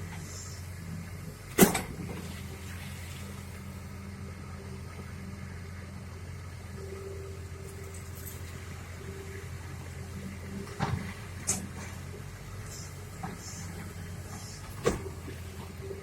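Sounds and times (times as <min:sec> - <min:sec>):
excavator digging mud and sand: 0:00.0 - 0:05.8, 0:06.8 - 0:16.0
excavator diesel engine running: 0:00.0 - 0:16.0.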